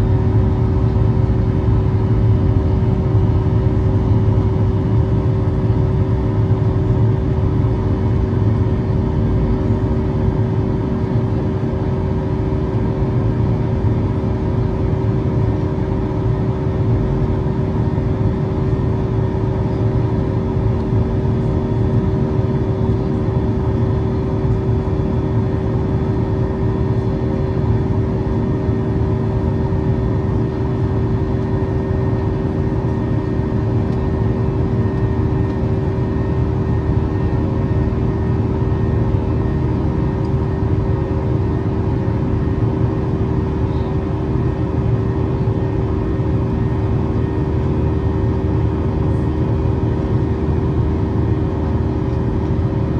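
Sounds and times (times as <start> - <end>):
jet engines and rushing air drone: 0.0 - 52.9.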